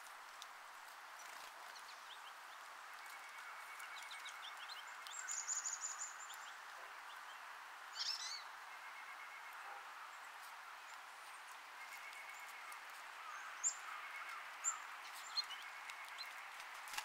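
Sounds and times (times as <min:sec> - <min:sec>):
songbirds chipping: 0:00.1 - 0:17.0.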